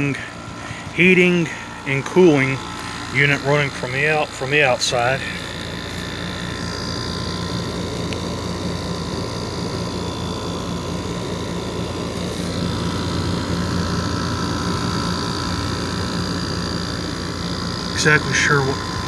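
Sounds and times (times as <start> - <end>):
condenser fan whirring: 0.0 - 19.0
constant tones: 0.0 - 19.0
steady hum: 0.0 - 19.0.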